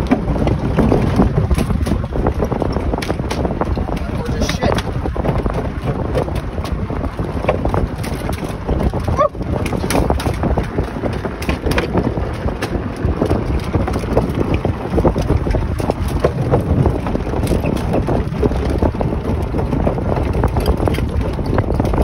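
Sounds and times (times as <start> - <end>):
golf cart rumble: 0.0 - 22.0
wind buffeting microphone: 0.0 - 22.0.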